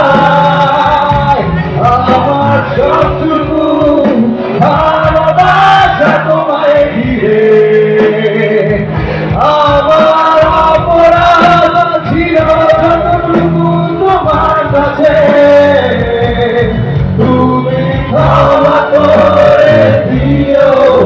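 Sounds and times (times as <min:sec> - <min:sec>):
acoustic guitar: 0:00.0 - 0:21.0
drums: 0:00.0 - 0:21.0
keyboard: 0:00.0 - 0:21.0
man singing: 0:00.0 - 0:21.0.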